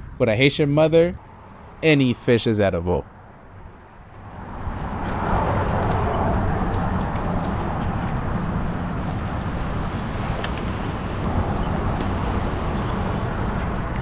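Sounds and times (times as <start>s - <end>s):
road traffic rumble: 0.0s - 14.0s
vehicle passing: 0.0s - 14.0s.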